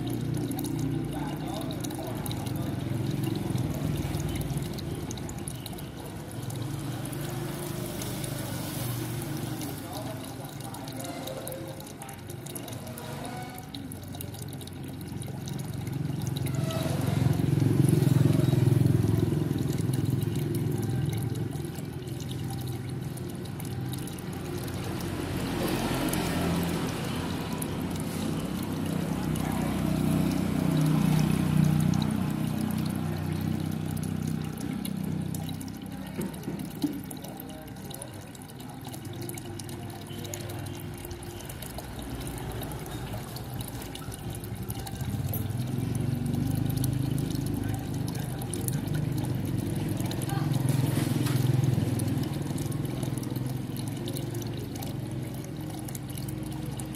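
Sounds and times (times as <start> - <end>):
water splashing into a pond: 0.0 - 56.9.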